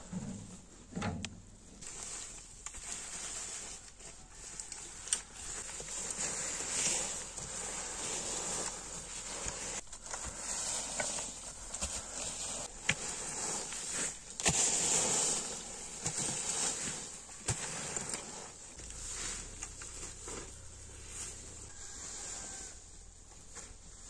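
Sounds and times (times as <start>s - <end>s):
rakes scraping through dry leaves: 1.8s - 24.0s.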